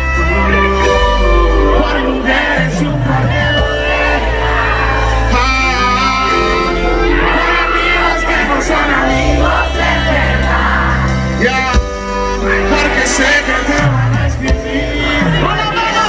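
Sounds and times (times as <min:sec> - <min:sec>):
man singing into microphone: 0:00.0 - 0:10.5, 0:11.3 - 0:16.0
reggaeton music over loudspeakers: 0:01.6 - 0:06.6, 0:08.2 - 0:16.0.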